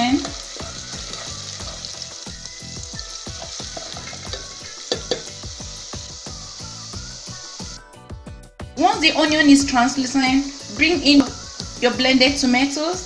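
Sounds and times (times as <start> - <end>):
onions sizzling in hot oil: 0.0 - 8.0, 8.8 - 13.0.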